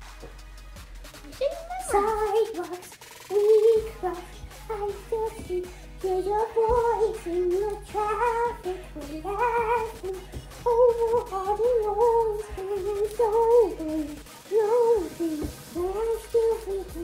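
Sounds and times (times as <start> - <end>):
child singing: 1.3 - 17.0.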